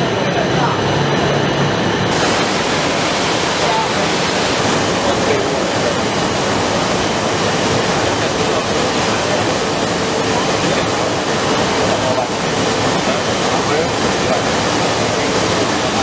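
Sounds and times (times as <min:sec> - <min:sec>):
faint voices: 0:00.0 - 0:02.4, 0:03.3 - 0:16.0
exhibition hall din: 0:00.0 - 0:16.0
film line machine rushing: 0:02.0 - 0:16.0.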